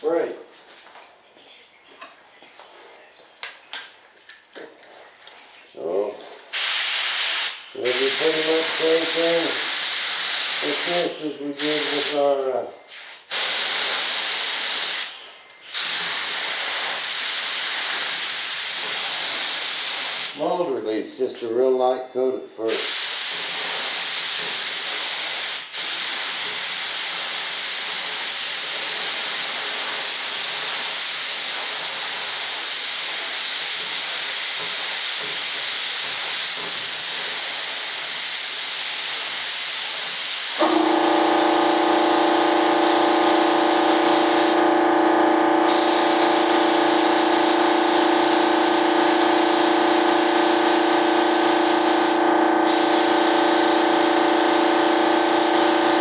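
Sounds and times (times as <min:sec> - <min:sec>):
spray gun hissing: 0:06.5 - 0:12.3, 0:12.9 - 0:20.4, 0:22.8 - 0:44.6, 0:45.7 - 0:56.0
air compressor drone: 0:06.5 - 0:20.7, 0:22.7 - 0:56.0.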